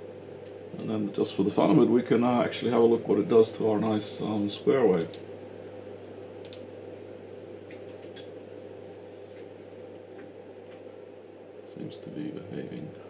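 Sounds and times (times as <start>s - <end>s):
low equipment hum: 0.0s - 13.0s.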